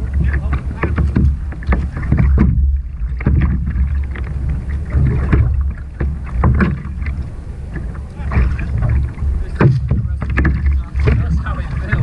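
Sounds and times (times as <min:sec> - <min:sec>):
water lapping against kayak hull: 0:00.0 - 0:12.0
wind rumble on microphone: 0:00.0 - 0:12.0.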